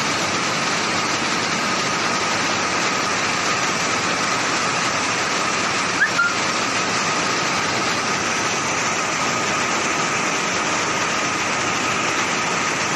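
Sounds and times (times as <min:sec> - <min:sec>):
knitting machines running: 0:00.0 - 0:12.9.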